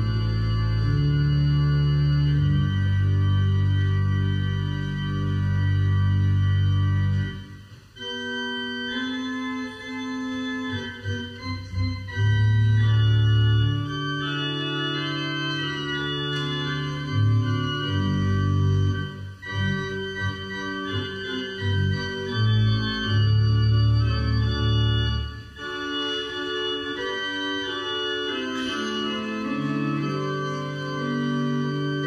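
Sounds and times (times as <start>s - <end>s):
organ playing held chords: 0.0s - 32.0s.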